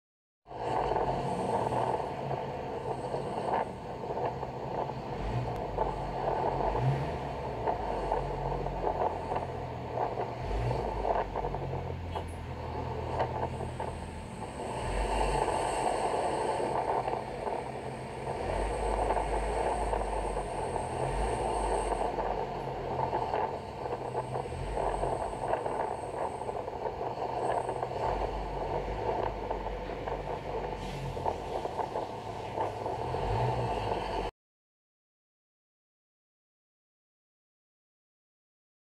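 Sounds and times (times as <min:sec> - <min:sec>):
vehicle engine and road noise: 0:00.4 - 0:34.3.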